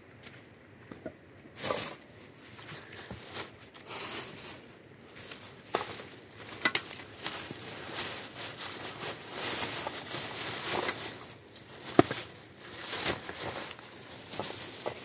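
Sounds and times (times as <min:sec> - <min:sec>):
rustling: 0:01.5 - 0:15.0.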